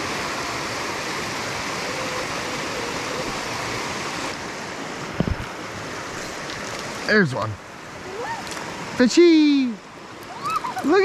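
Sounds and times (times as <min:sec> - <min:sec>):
stream water rushing over rocks: 0:00.0 - 0:11.0.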